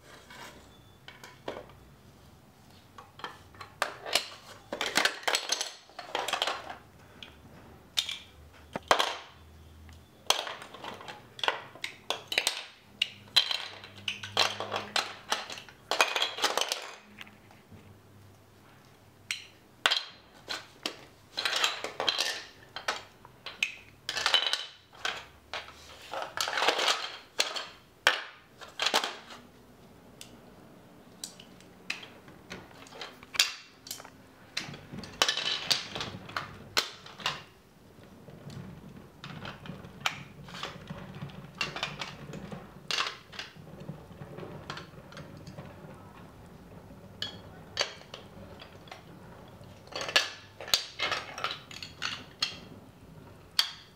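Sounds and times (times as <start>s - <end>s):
plastic bricks clattering on wooden floor: 3.0s - 7.4s, 8.0s - 9.5s, 10.3s - 17.6s, 19.3s - 29.5s, 31.2s - 53.9s.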